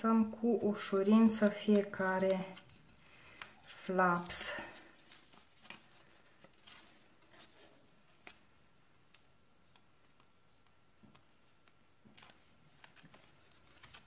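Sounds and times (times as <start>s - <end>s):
cardstock ticks and rustles: 0.8s - 14.0s.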